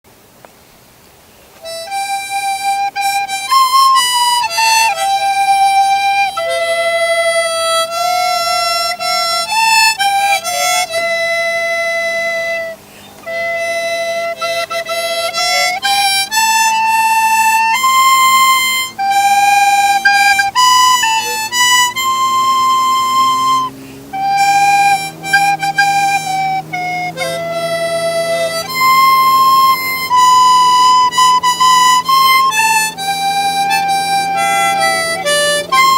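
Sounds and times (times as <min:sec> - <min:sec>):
lower accompanying line: 0:01.5 - 0:35.9
reedy wind instrument melody: 0:01.5 - 0:35.9.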